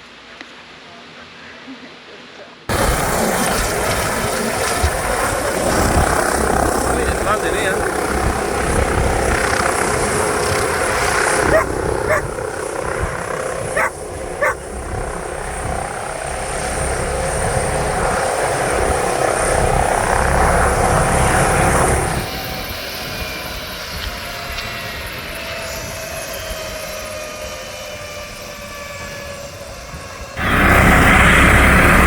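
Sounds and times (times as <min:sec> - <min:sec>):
helicopter rotor and engine: 0:02.7 - 0:32.0.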